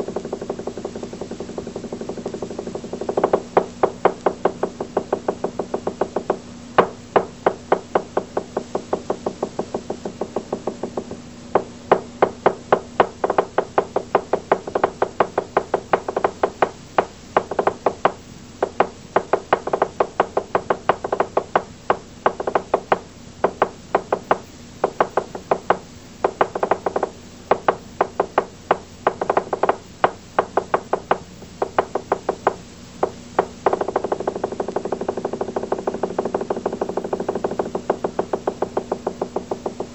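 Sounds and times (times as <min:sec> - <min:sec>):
sharp knocking strikes: 0:00.0 - 0:39.9.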